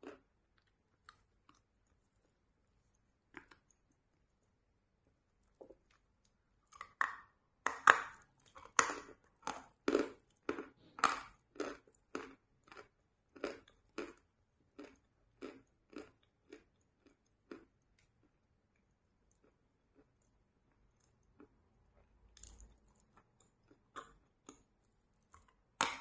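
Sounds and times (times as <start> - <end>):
steady chewing: 0.0 - 7.0, 8.0 - 26.0.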